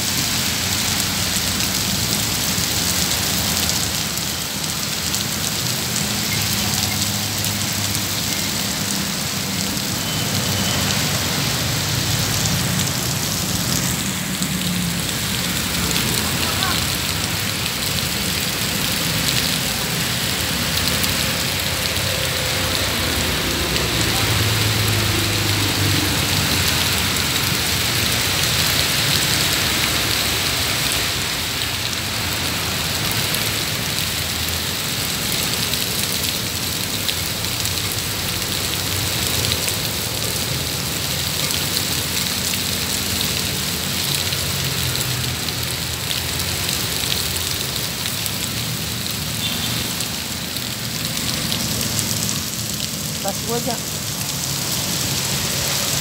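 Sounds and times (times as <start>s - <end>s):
heavy rain on pavement: 0.0s - 56.0s
vehicles driving on wet road: 0.0s - 56.0s.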